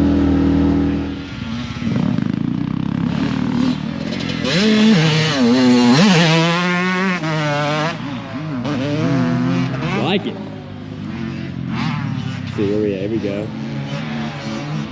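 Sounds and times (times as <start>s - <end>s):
off-road vehicle engine revving: 0.0s - 2.3s, 3.0s - 14.9s.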